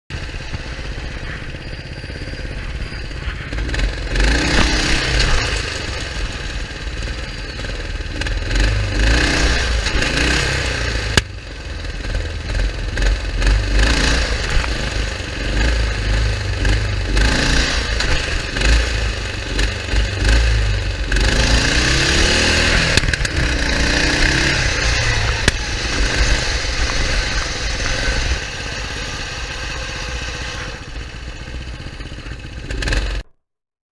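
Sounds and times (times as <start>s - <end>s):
lawnmower engine revving: 0.1s - 33.3s.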